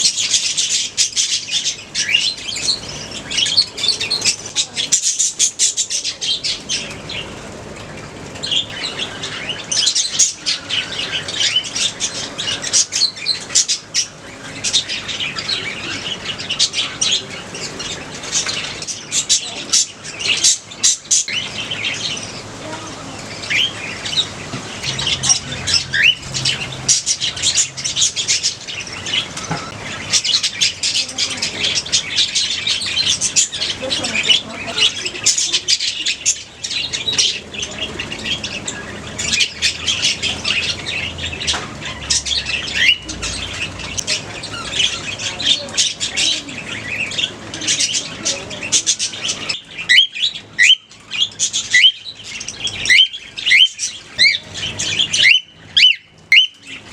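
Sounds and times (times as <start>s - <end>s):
budgerigars chattering and chirping: 0.0s - 56.9s.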